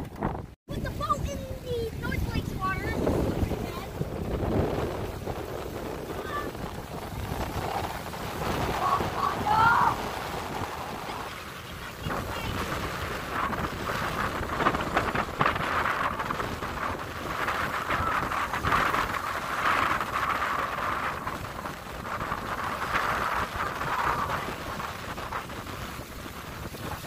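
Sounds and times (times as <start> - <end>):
wind buffeting microphone: 0.0 - 27.0
small waves lapping at shore: 0.7 - 27.0.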